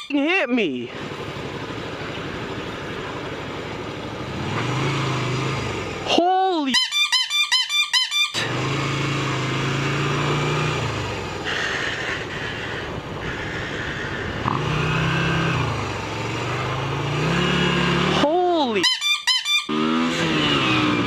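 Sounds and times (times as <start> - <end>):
motorcycle engine running: 0.0 - 6.9, 8.3 - 21.0.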